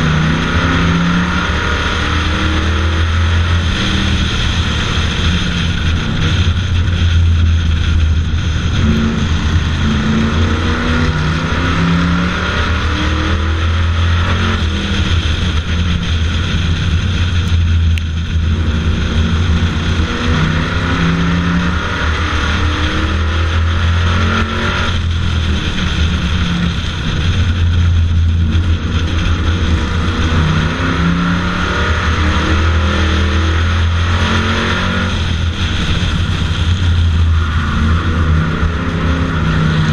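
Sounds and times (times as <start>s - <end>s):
race car engine running hard: 0.0s - 39.9s
wind noise: 0.0s - 39.9s.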